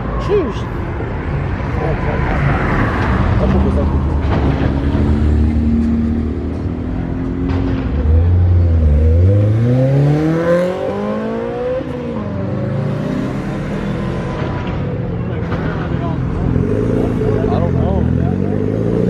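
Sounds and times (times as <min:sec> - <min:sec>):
car engine accelerating: 0:02.1 - 0:19.0.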